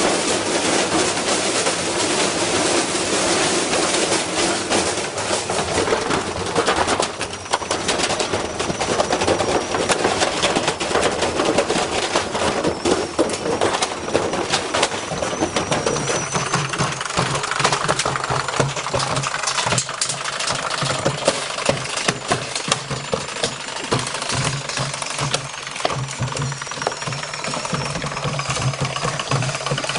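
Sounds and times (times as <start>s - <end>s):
washing machine drum banging: 0.0s - 29.9s.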